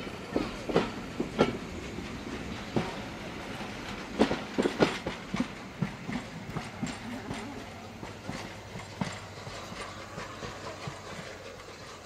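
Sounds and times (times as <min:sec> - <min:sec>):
steady train rumble: 0:00.0 - 0:12.0
train wheels clacking over rail joints: 0:00.0 - 0:12.0.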